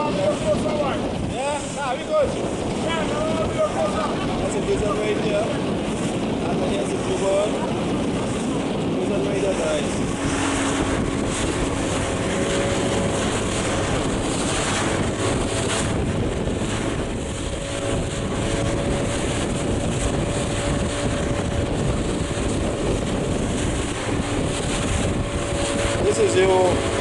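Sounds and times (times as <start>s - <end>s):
boat engine hum: 0.0s - 27.0s
wind buffeting microphone: 0.0s - 27.0s.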